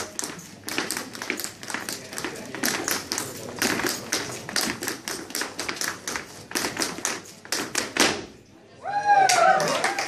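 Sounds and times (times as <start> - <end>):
dance shoes tapping on wooden floor: 0.0 - 8.3.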